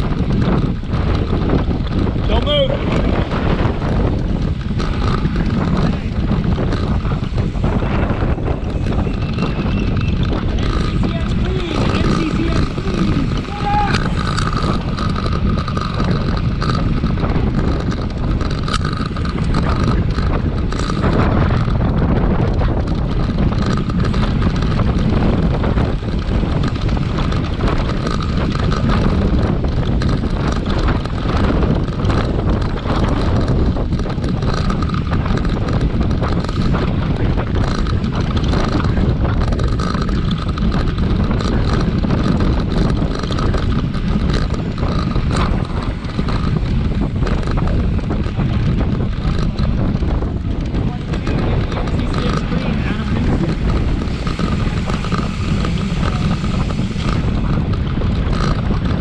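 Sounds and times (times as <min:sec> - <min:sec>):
faint hum of bicycle race: 0:00.0 - 0:59.0
wind buffeting microphone: 0:00.0 - 0:59.0.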